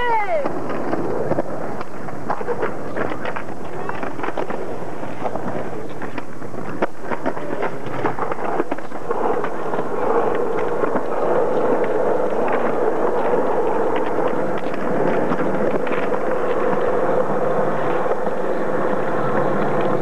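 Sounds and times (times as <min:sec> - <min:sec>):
skateboard clacks on ground: 0:00.0 - 0:20.0
skateboard wheels rolling on concrete: 0:00.0 - 0:20.0.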